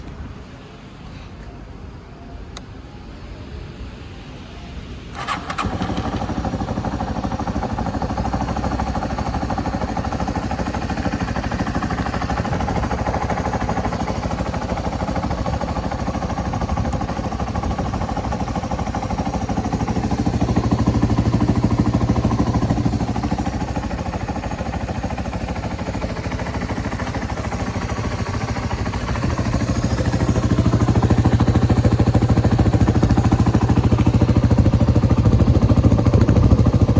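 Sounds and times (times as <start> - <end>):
motorcycle engine idling: 5.2 - 36.9.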